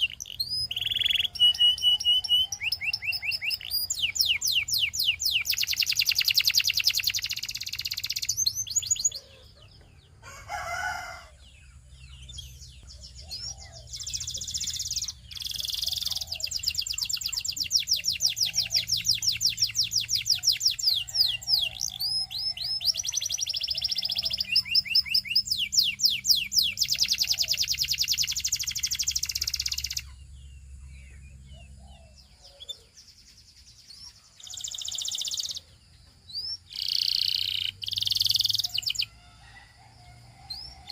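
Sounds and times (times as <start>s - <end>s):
canary trilling song: 0.0s - 40.9s.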